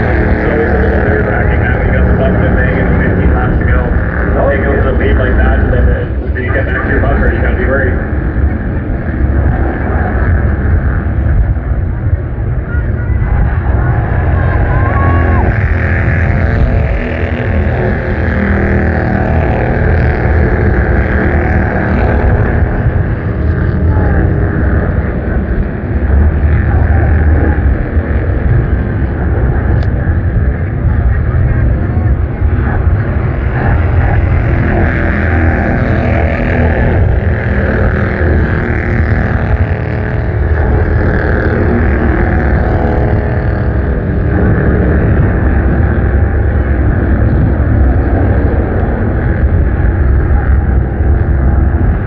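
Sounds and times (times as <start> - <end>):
race car engines: 0.0 - 52.0.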